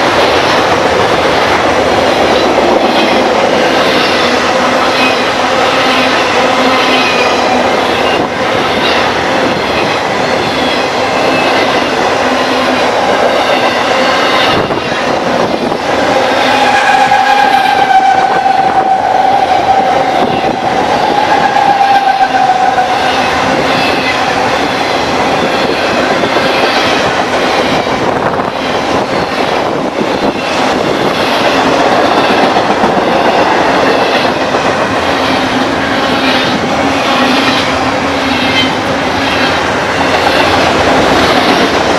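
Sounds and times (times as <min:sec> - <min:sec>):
train wheels rolling on rail: 0:00.0 - 0:41.9.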